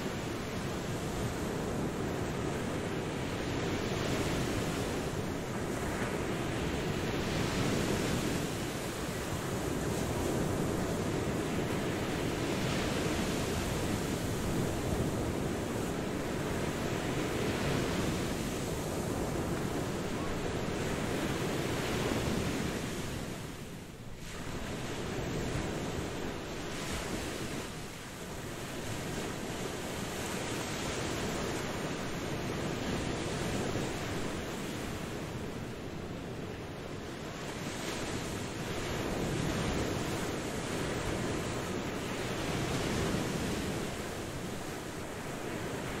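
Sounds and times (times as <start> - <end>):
ocean waves washing in: 0.0 - 46.0.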